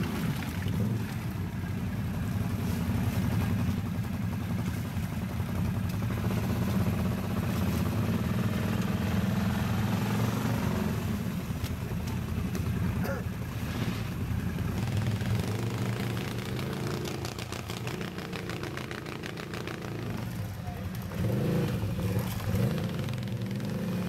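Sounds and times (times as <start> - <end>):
quad engine running: 0.0 - 24.0.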